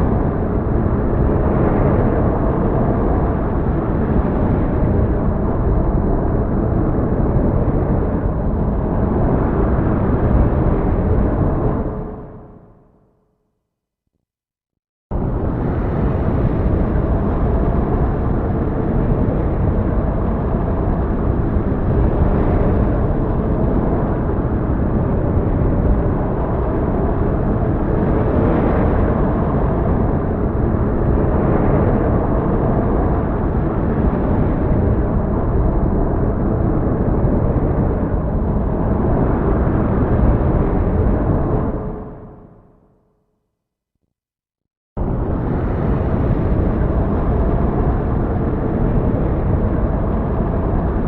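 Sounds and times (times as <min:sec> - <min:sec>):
heavy storm rumble: 0:00.0 - 0:12.7, 0:15.1 - 0:42.7, 0:45.0 - 0:51.0.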